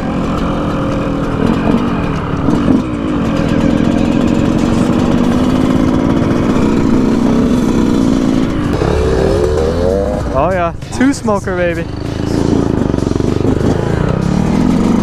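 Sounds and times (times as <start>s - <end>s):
dirt bike engines revving and idling: 0.0s - 15.0s.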